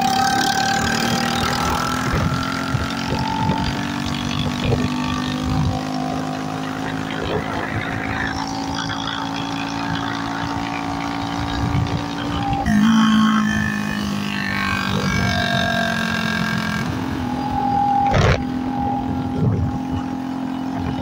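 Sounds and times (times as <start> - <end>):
motorcycle open-exhaust drone: 0.0 - 21.0.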